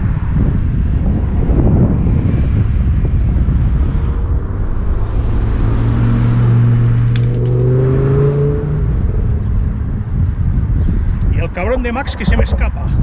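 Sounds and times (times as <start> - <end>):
wind rumbling on microphone: 0.0 - 13.0
car engine passing: 0.8 - 11.3.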